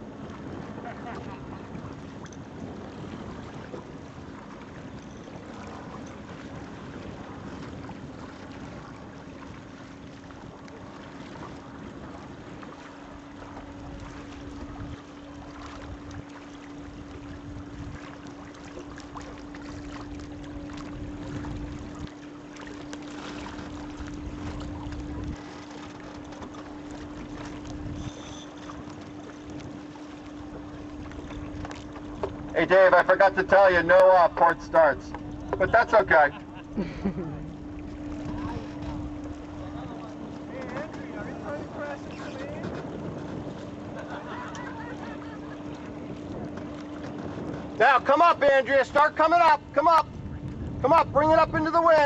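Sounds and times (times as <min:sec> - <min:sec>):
water noise: 0:00.0 - 0:52.0
wind buffeting microphone: 0:00.0 - 0:52.0.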